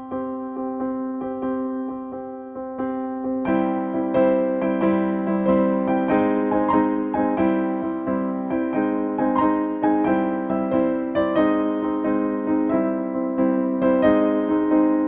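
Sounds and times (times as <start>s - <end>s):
electric piano repeated notes: 0.0s - 15.0s.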